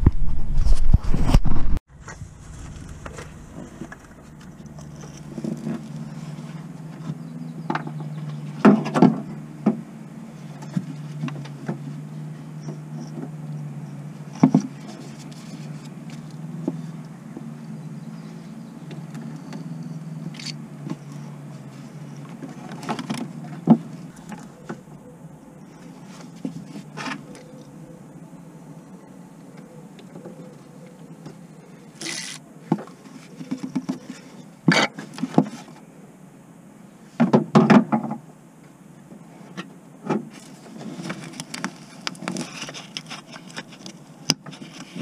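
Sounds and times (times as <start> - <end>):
steady low hum: 0.0 - 37.3.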